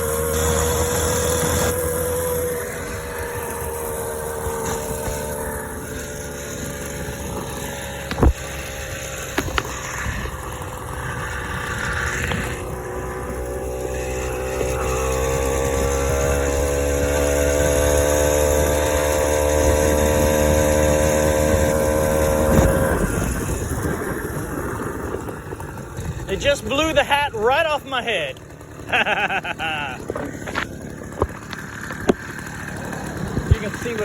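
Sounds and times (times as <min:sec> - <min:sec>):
small gas engine running: 0:00.0 - 0:34.0.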